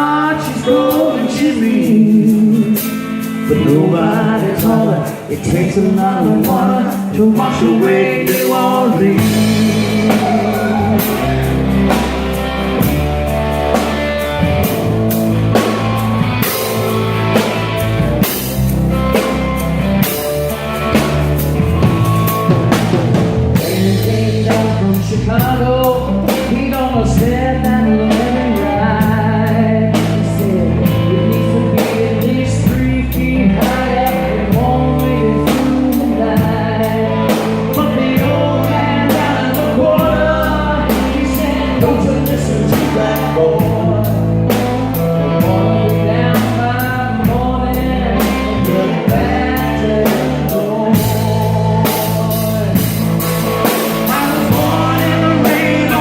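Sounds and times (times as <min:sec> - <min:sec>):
band playing instrumental: 0:00.0 - 0:56.0
bending lead melody: 0:00.0 - 0:56.0
drum kit steady beat: 0:00.0 - 0:56.0.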